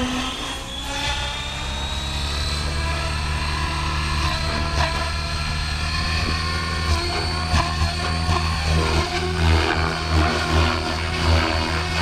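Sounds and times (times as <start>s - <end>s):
electric motor whine: 0.0s - 12.0s
rotor blades beating: 0.0s - 12.0s.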